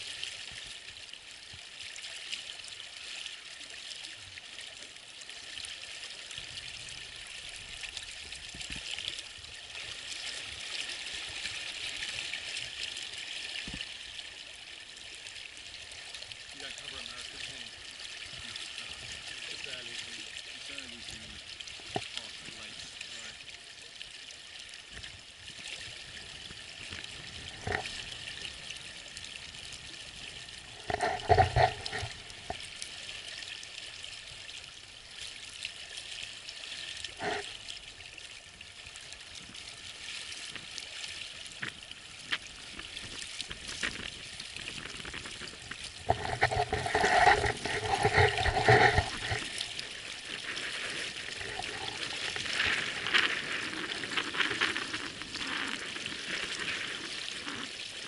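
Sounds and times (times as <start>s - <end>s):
water lapping against boat hull: 0.0s - 58.0s.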